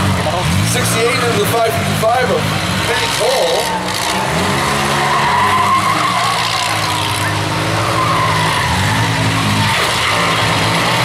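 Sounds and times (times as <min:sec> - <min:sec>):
engines revving: 0:00.0 - 0:11.0.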